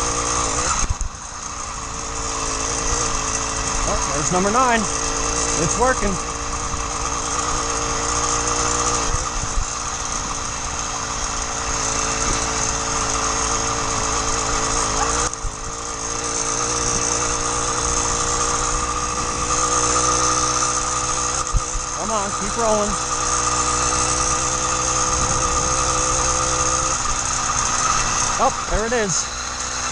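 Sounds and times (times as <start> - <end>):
two-stroke bicycle engine running: 0.0 - 29.9.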